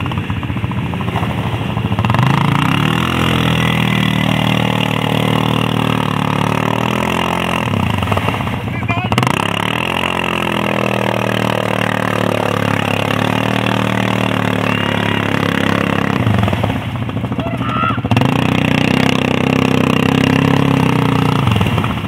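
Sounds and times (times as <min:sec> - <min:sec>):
quad bike engine revving: 0:00.0 - 0:22.0.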